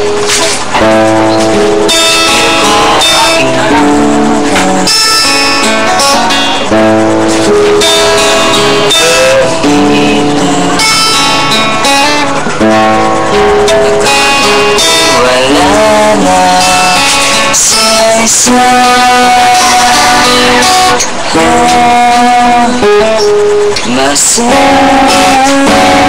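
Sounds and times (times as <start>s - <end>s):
acoustic guitar chords: 0.0s - 26.0s.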